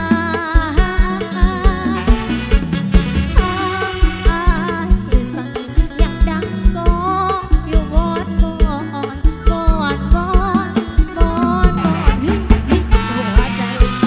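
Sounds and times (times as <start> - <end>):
woman singing into microphone: 0.0 - 2.4, 3.4 - 14.0
band playing: 0.0 - 14.0.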